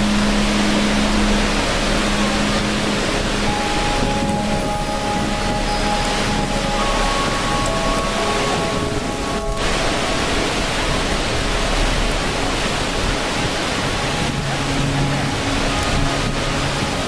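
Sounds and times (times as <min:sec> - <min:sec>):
rushing water: 0:00.0 - 0:17.0
soft held music notes: 0:00.0 - 0:17.0.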